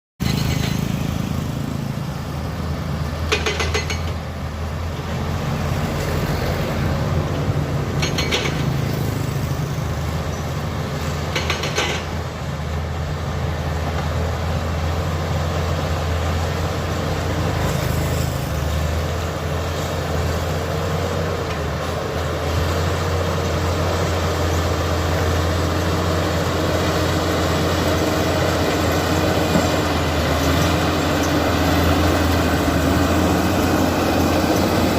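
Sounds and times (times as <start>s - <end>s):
bulldozer diesel engine running: 0.2s - 34.9s.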